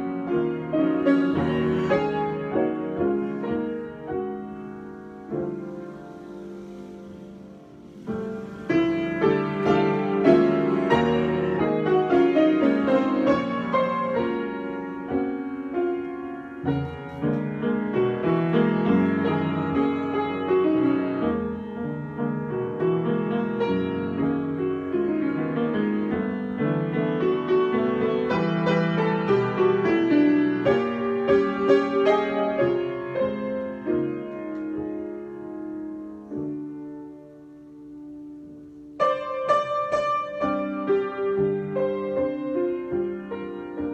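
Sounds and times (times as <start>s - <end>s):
solo piano playing: 0.0s - 43.9s.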